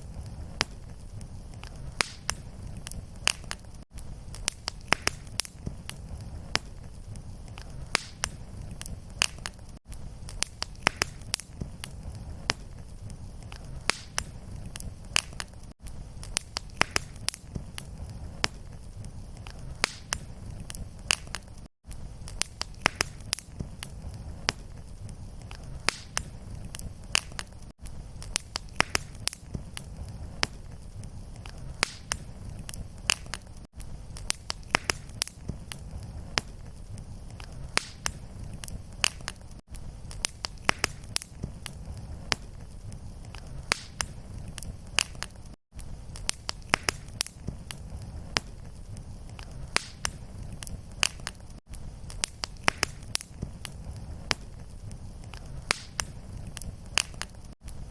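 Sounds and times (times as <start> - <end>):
fire crackling and popping: 0.0 - 57.9
fire flame rumble: 0.0 - 57.9.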